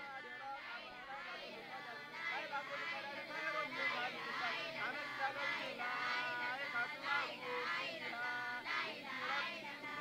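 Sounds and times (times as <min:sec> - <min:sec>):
voices chanting together: 0:00.0 - 0:10.0.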